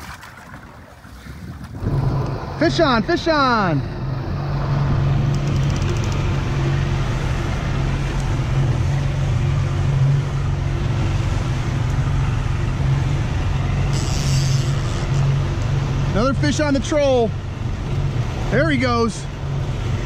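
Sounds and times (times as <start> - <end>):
boat wake rushing: 0.0 - 20.0
outboard motor humming: 0.0 - 20.0.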